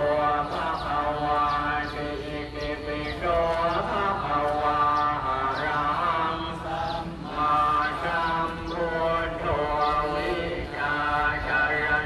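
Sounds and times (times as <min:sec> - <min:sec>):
voices chanting in unison: 0:00.0 - 0:12.0.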